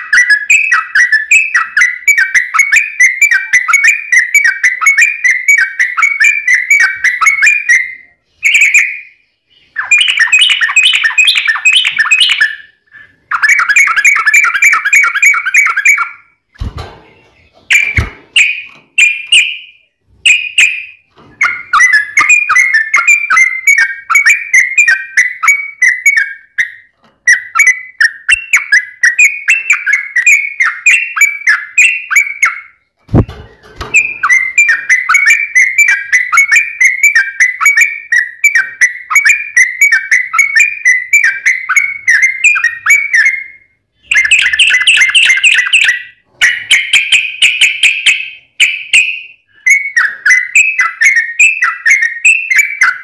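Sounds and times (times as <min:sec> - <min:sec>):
bird singing rapid chattering notes: 0:00.0 - 0:53.0.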